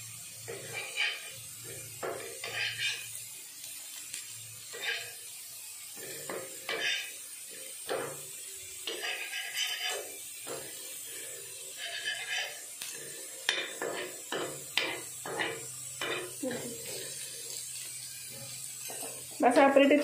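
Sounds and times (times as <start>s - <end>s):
frying hiss: 0.0s - 20.0s
metal spatula scraping a griddle: 0.4s - 3.3s, 4.2s - 19.4s.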